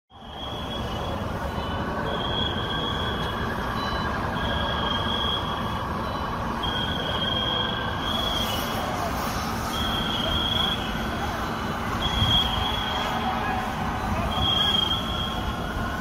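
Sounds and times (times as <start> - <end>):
street din: 0.1 - 16.0.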